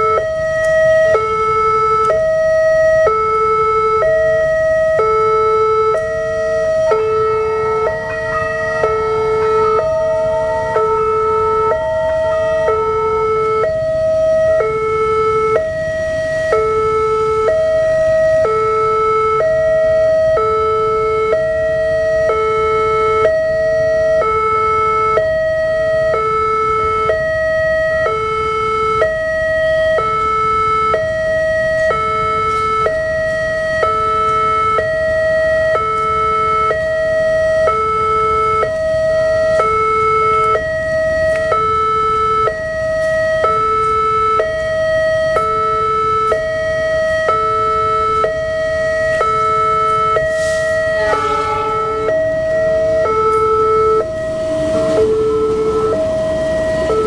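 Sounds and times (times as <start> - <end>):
two-tone crossing warning siren: 0.0 - 57.0.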